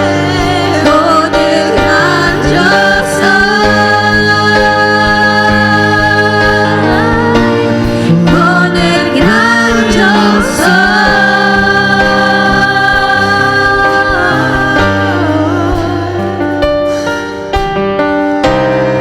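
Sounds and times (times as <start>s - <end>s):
gospel singing with sliding notes: 0.0s - 19.0s
sustained keyboard chords: 0.0s - 19.0s.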